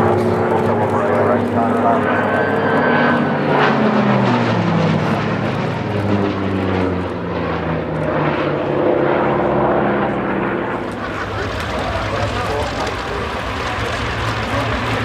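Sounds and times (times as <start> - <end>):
propeller plane flying past: 0.0 - 15.0.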